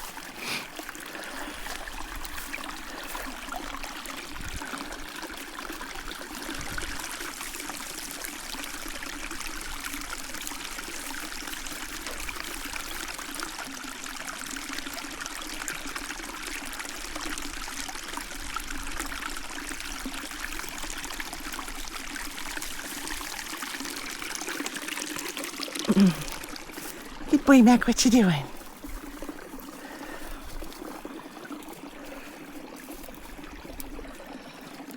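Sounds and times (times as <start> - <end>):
stream rushing and trickling: 0.0 - 34.9.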